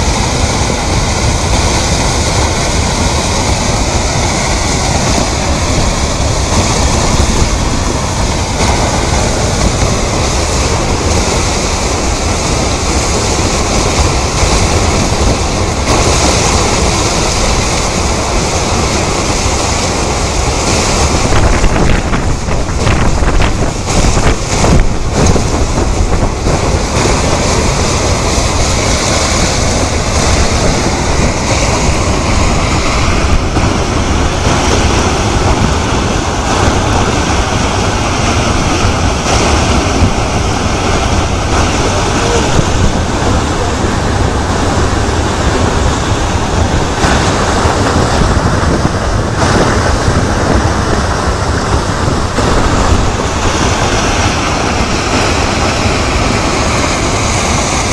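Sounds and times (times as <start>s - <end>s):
river water rushing: 0.0s - 57.9s
wind buffeting microphone: 0.0s - 57.9s.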